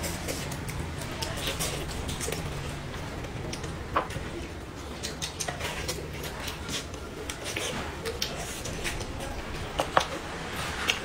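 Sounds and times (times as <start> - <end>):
lip smacking: 0.0 - 11.0
wet chewing: 0.0 - 11.0.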